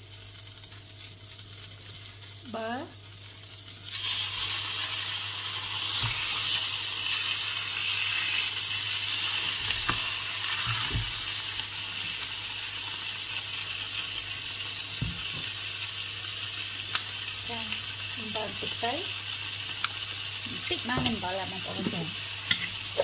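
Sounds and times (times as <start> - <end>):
fish sizzling in a frying pan: 0.0 - 23.0.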